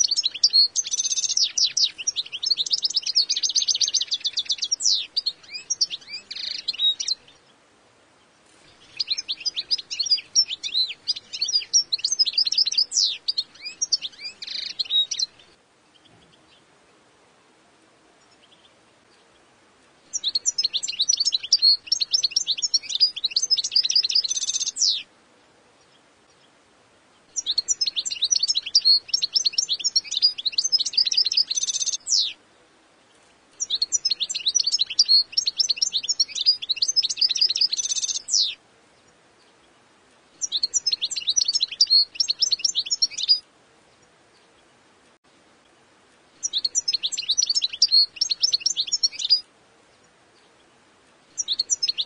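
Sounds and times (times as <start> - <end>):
bird twittering with buzzy trills: 0.0 - 7.6, 8.2 - 16.7, 18.2 - 25.1, 25.8 - 32.4, 33.0 - 44.8, 46.4 - 50.7, 51.3 - 52.0.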